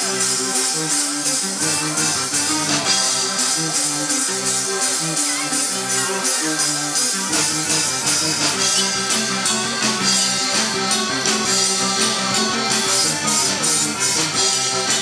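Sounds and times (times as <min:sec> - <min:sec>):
accordion: 0:00.0 - 0:15.0
bass: 0:00.0 - 0:15.0
steady beat: 0:00.0 - 0:15.0.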